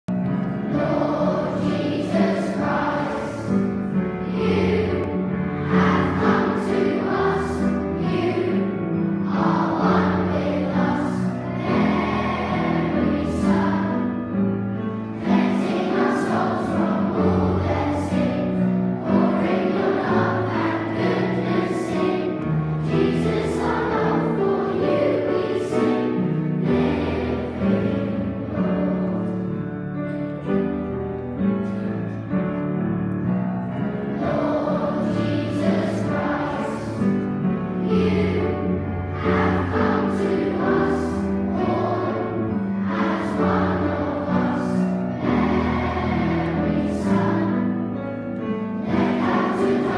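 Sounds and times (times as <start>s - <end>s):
piano accompaniment: 0.0s - 49.9s.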